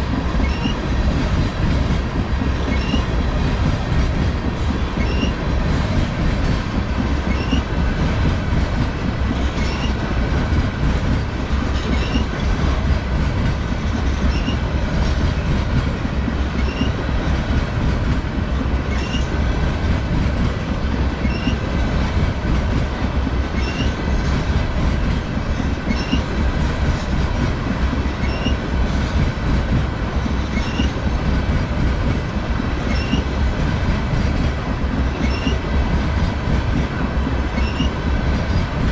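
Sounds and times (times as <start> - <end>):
rail car clicks: 0.0 - 38.9
steel wheels rumbling on rail: 0.0 - 38.9.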